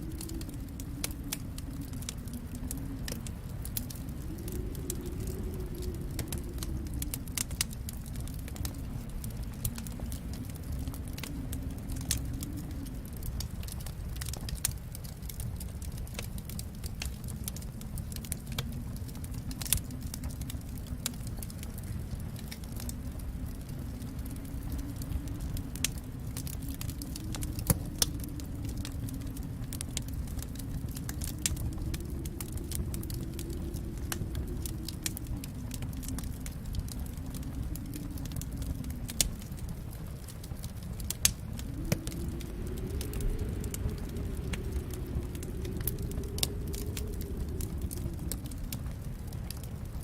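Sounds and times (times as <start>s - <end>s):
fireplace fire crackling: 0.0s - 50.0s.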